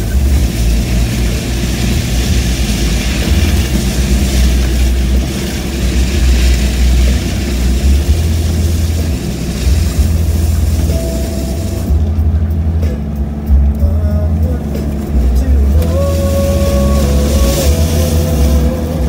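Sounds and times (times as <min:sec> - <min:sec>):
heavy uneven low rumble: 0:00.0 - 0:19.0
vehicle engine and tyre noise: 0:00.0 - 0:19.0.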